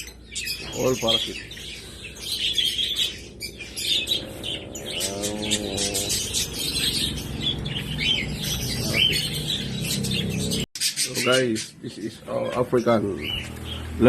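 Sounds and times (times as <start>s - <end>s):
small parrots chirping and chattering: 0.0s - 14.0s.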